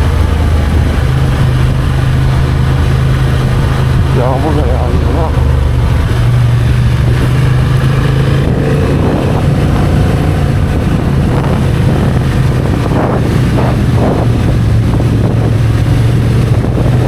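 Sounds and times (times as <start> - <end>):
motorcycle engine running: 0.0 - 17.0
wind noise on microphone: 0.0 - 17.0.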